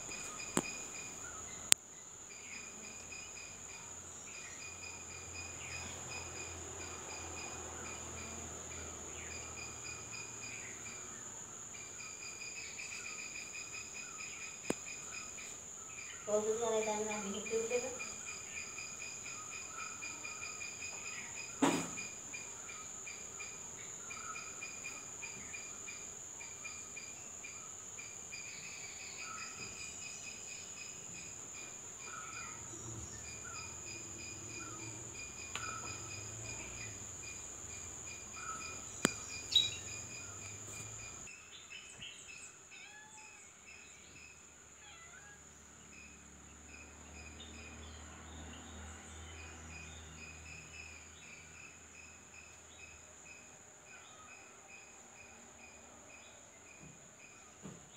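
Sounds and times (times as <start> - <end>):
fast pulsing insect chirp: 0.0 - 57.5
insects trilling: 0.0 - 57.9.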